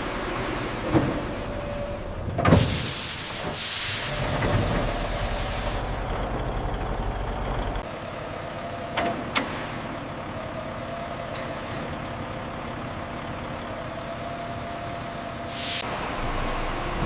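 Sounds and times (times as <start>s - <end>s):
truck running with hiss: 0.0s - 17.0s.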